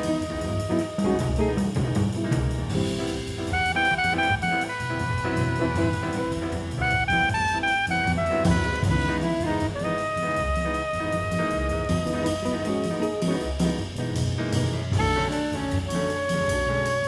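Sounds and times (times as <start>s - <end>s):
instrumental jazz music: 0.0s - 17.0s.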